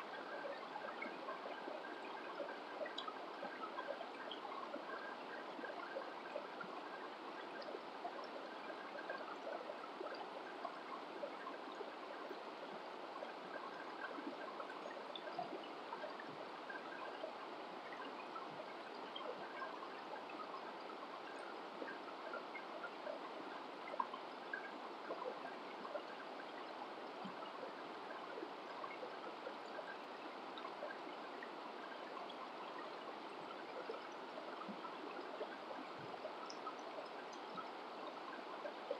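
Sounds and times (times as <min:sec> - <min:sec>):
small water splashes and gurgles: 0:00.0 - 0:38.9.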